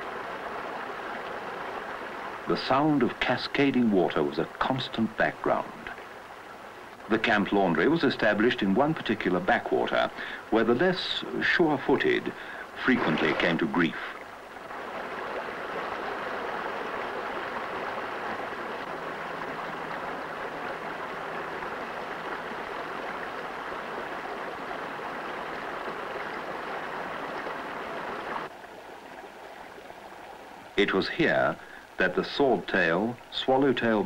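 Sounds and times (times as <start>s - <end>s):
water rushing over boulders: 0.0s - 34.0s.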